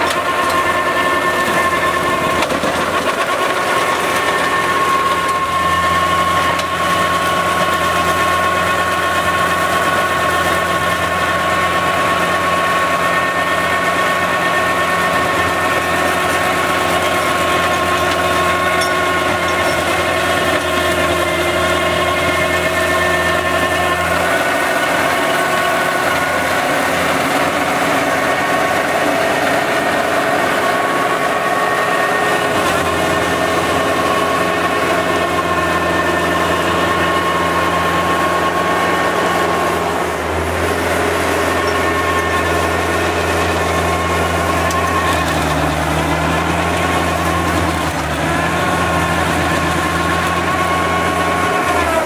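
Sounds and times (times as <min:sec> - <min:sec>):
mulcher shredding brush: 0:00.0 - 0:52.0
tractor engine under load: 0:00.0 - 0:52.0.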